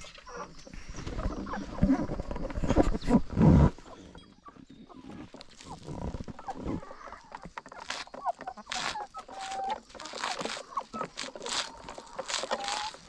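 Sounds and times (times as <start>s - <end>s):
chickens clucking softly: 0.0s - 13.0s.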